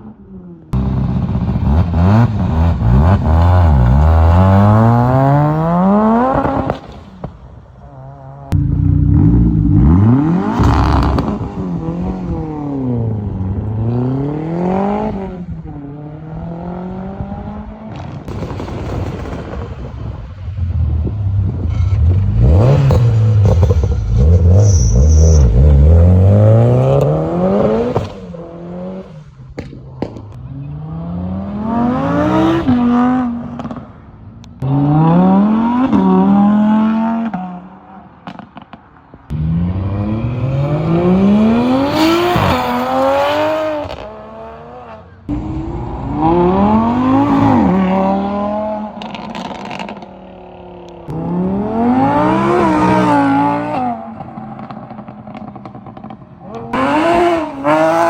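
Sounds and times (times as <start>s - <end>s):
car engines accelerating hard: 0.6s - 7.3s, 8.3s - 18.4s, 20.6s - 58.0s.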